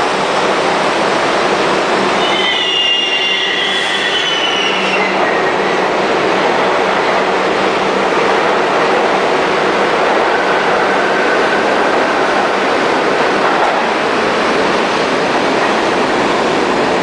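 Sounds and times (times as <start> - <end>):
subway train rumbling past: 0.0 - 17.0.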